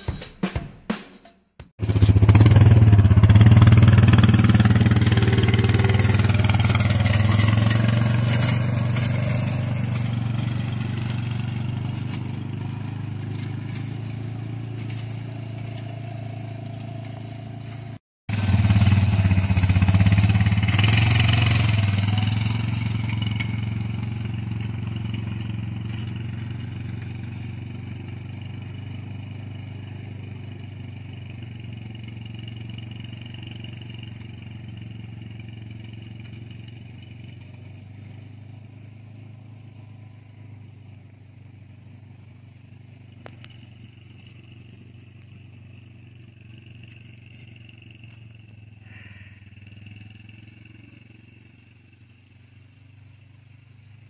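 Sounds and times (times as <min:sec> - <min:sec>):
quad engine running: 0:01.8 - 0:54.0.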